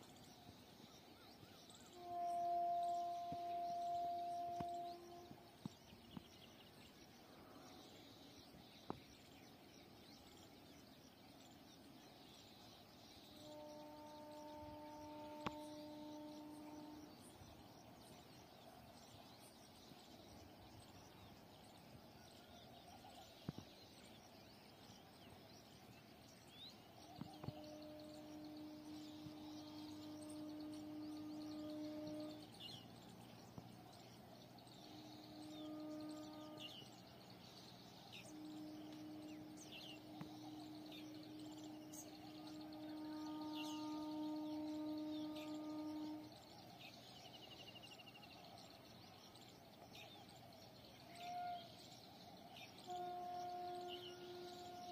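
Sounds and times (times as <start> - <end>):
birds chirping: 0.0 - 54.9
distant train horn blasts: 0.0 - 54.9.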